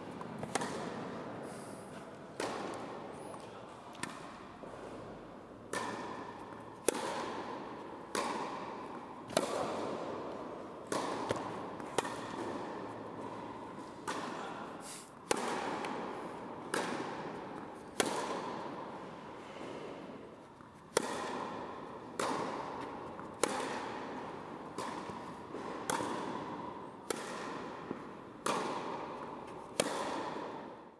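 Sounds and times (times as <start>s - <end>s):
tennis ball hit by rackets: 0.0s - 30.9s.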